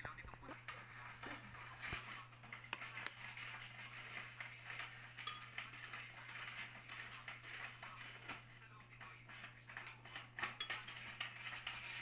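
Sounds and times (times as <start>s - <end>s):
steady low hum: 0.0s - 12.0s
dishes and utensils clinking: 0.7s - 8.4s, 9.7s - 12.0s.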